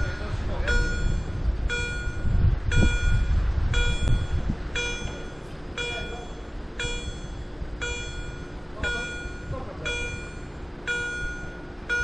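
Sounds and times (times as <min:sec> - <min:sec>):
level-crossing warning bell: 0:00.0 - 0:12.0
low rumbling: 0:00.0 - 0:12.0.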